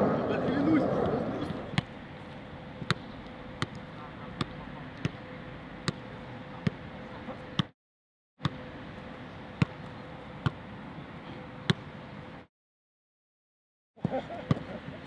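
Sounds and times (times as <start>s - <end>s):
outdoor background noise: 0.0s - 7.8s, 8.4s - 12.5s, 14.0s - 15.0s.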